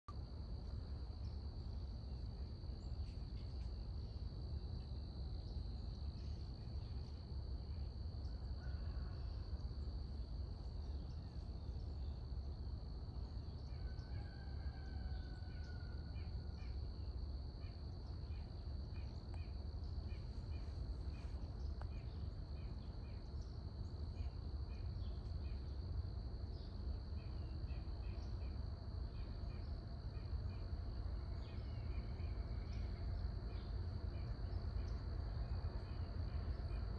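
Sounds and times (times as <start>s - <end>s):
low background rumble: 0.1s - 36.9s
insect chorus trilling: 0.9s - 36.9s.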